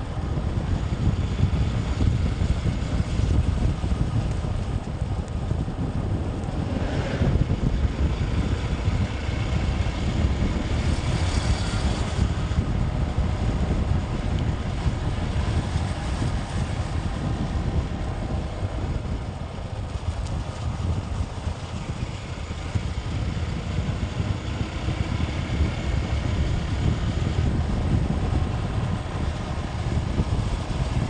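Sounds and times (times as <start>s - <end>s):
wind rush on microphone: 0.0s - 31.0s.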